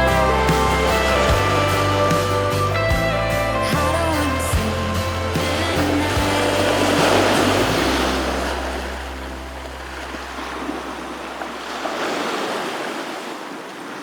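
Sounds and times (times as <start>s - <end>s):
song with bass: 0.0s - 11.3s
sea waves washing: 0.0s - 14.0s.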